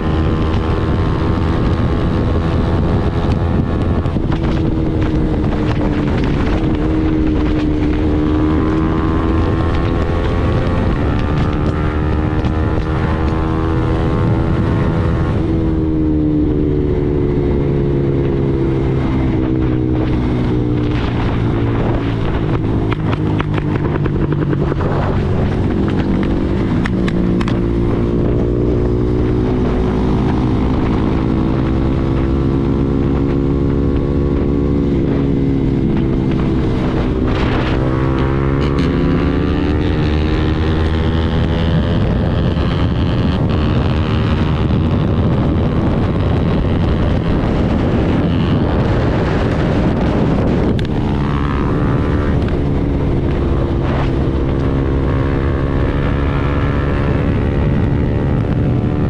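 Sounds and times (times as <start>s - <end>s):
motorcycle engine running: 0.0s - 59.0s
wind on microphone: 0.0s - 59.0s.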